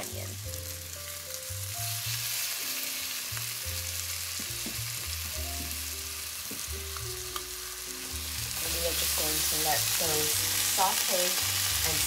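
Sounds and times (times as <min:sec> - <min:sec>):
mushrooms and onion sizzling in pan: 0:00.0 - 0:12.0
soft background music: 0:00.0 - 0:12.0.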